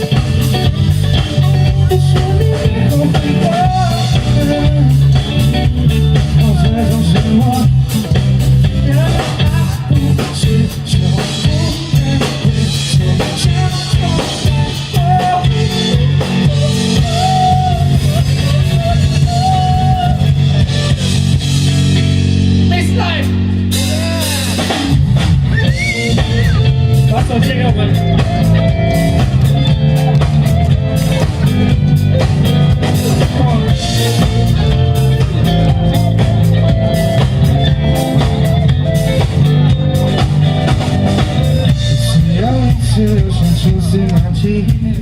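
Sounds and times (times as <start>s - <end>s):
bass guitar: 0.0s - 45.0s
drum kit: 0.0s - 45.0s
electric guitar lead line: 0.0s - 45.0s.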